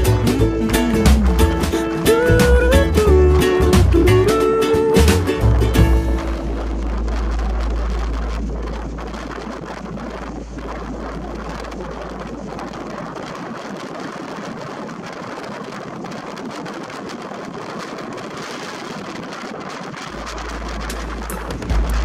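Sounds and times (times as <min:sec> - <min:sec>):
rush of wind: 0:00.0 - 0:22.0
water washing along a hull: 0:00.0 - 0:22.0
wind buffeting the microphone: 0:00.0 - 0:22.0.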